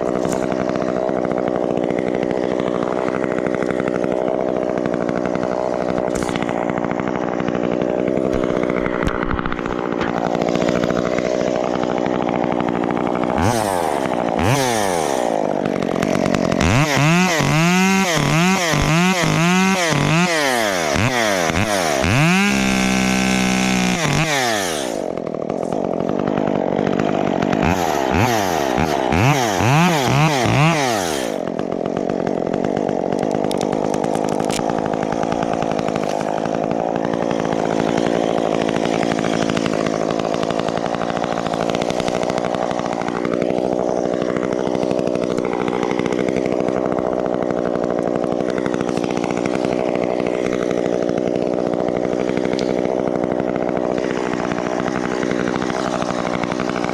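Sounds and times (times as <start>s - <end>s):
chainsaw engine revving: 0.0s - 56.9s.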